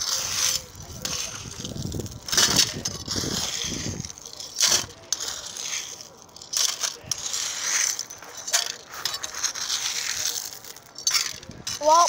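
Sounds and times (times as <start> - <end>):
rocks rattling from shovel: 0.0 - 12.0.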